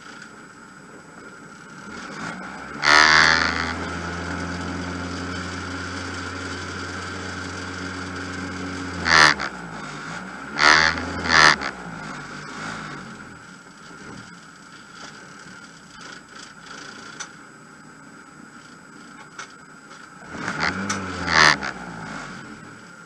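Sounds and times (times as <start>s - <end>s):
rally car engine revving and idling: 0.0s - 23.0s.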